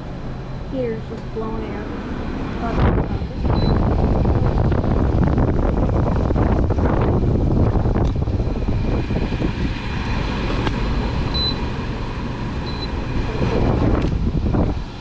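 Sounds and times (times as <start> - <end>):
air conditioner fan blowing: 0.0 - 15.0.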